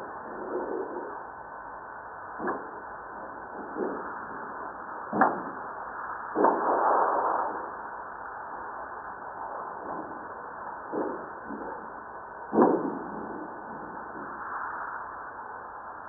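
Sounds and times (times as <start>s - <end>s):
rumble: 0.0s - 16.0s
steady hiss: 0.0s - 16.0s.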